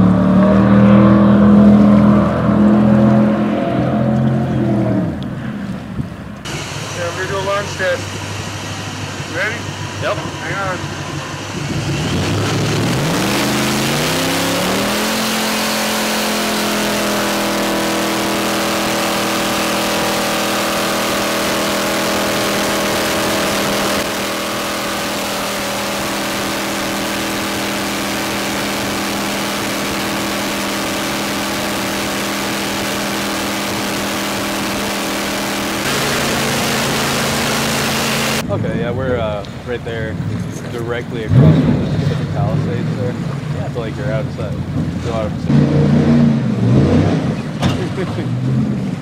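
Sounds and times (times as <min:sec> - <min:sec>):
boat engine revving: 0:00.0 - 0:49.0.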